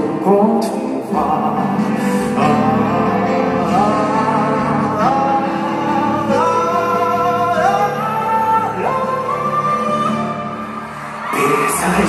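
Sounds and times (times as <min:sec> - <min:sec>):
live pop band music: 0:00.0 - 0:12.0.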